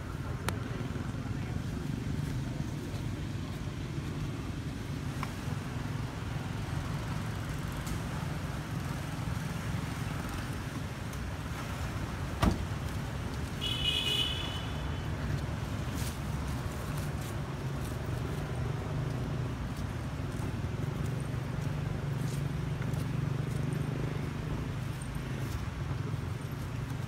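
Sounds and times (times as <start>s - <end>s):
distant road traffic rumble: 0.0s - 27.0s.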